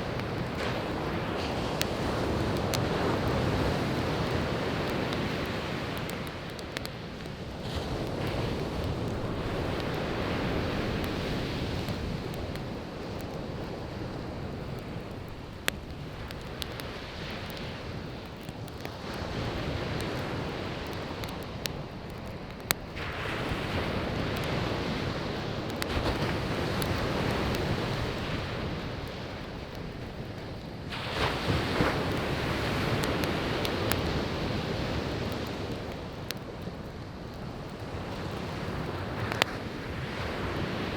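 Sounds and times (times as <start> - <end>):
firewood popping and crackling: 0.0 - 40.9
sea waves breaking on beach: 0.0 - 40.9.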